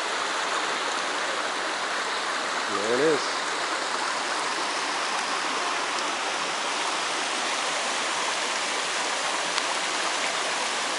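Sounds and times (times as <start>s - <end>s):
small waterfall splashing: 0.0s - 10.9s.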